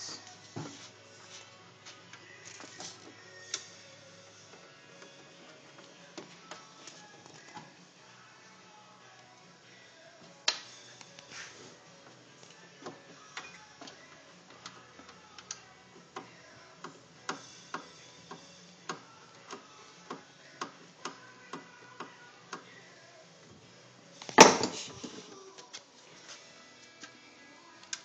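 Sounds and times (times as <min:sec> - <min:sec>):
faint music: 0:00.0 - 0:28.0.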